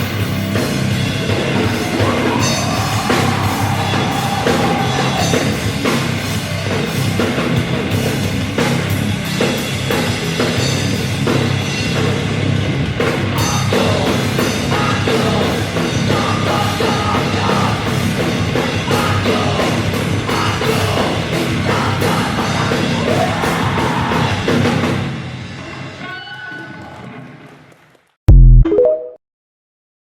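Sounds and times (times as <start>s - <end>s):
rock band playing live: 0.0s - 25.2s.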